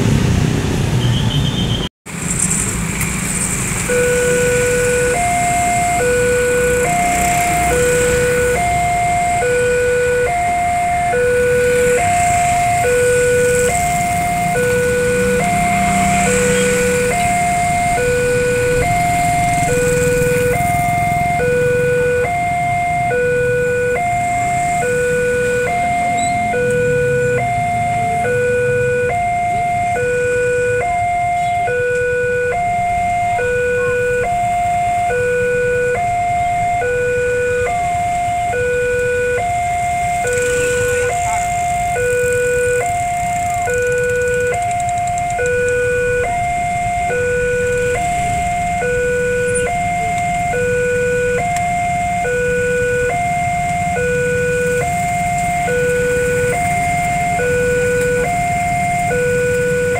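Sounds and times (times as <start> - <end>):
idling traffic rumble: 0.0 - 59.9
level crossing two-tone alarm: 3.7 - 59.9.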